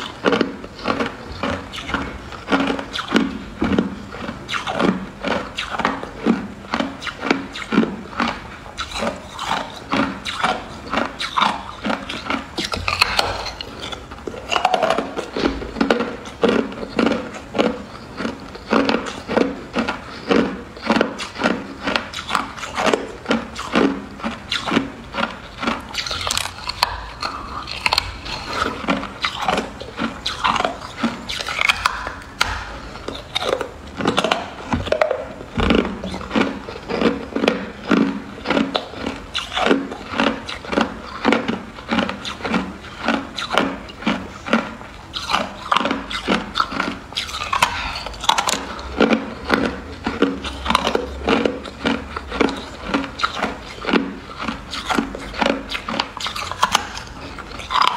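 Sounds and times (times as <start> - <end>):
ice being chewed crunching: 0.0 - 57.9.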